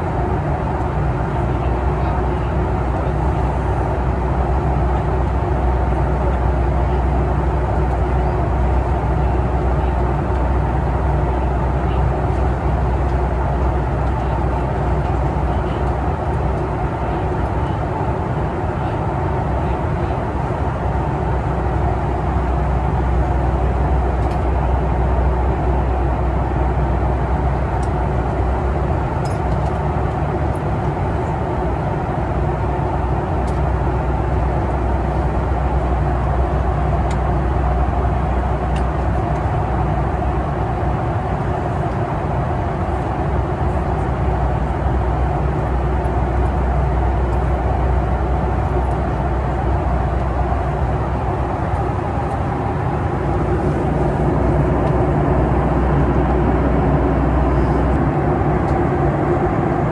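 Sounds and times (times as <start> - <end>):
airliner cabin drone: 0.0 - 59.9.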